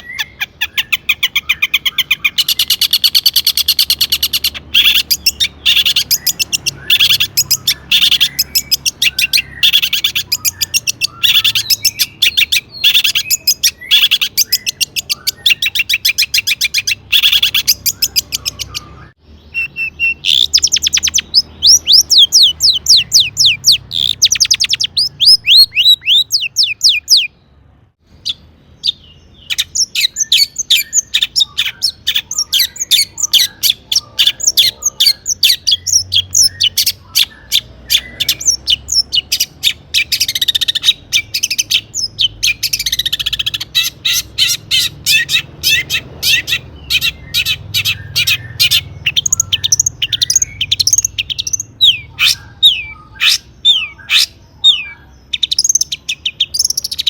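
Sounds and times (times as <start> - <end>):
shrike singing: 0.0 - 57.0.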